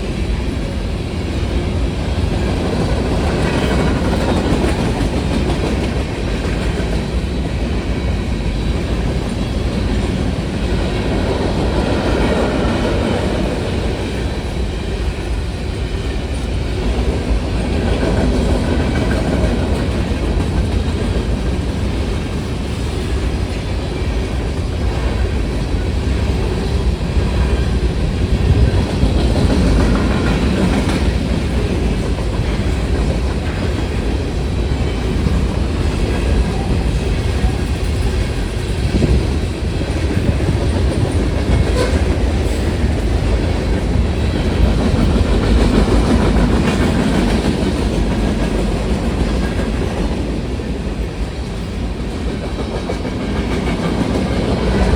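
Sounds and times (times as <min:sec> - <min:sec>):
train wheels clacking over rail joints: 0:00.0 - 0:54.9.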